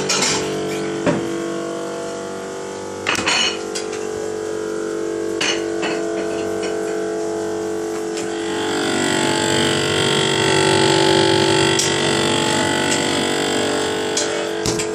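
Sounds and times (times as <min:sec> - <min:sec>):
refrigerator fan rattling buzz: 0:00.0 - 0:14.9.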